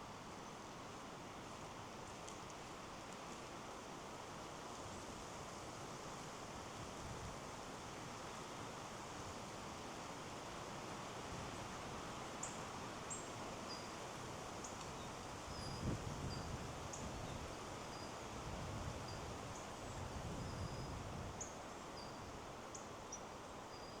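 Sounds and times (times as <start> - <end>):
wind through trees: 0.0 - 24.0.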